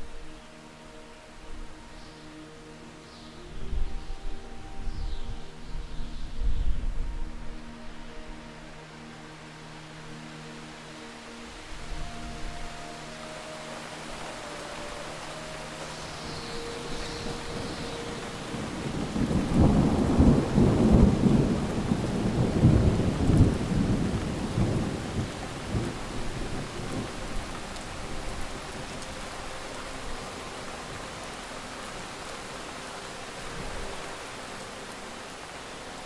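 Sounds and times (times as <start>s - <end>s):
faint hiss: 0.0s - 36.0s.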